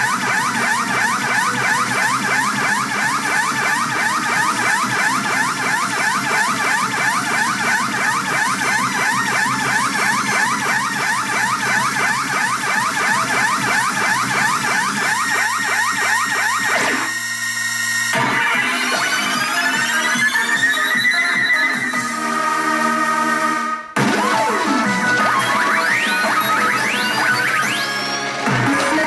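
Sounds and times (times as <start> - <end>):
electronic siren sweeps: 0.0 - 29.0.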